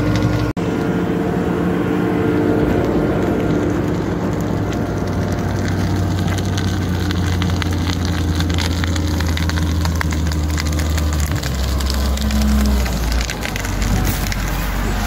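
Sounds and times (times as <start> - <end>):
diesel engine under load: 0.0 - 15.0
brush crackling and snapping: 2.7 - 15.0.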